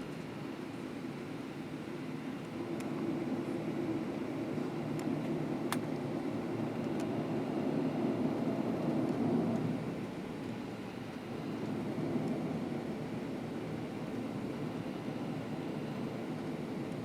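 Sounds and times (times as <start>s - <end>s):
airplane engines idling in cabin: 0.0s - 17.0s.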